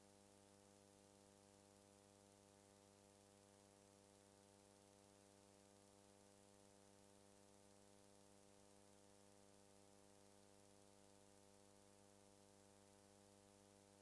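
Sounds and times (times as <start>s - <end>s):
faint hum and hiss: 0.0s - 14.0s.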